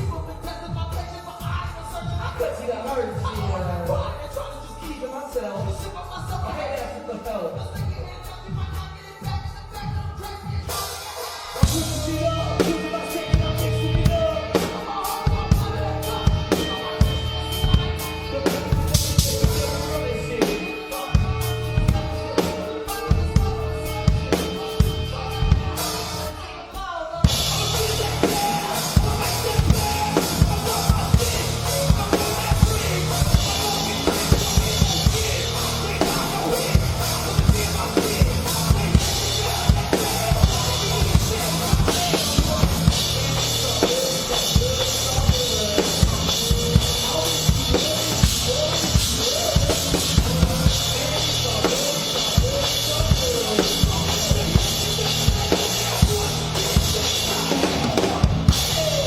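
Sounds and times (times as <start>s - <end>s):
live band playing: 0.0s - 59.0s.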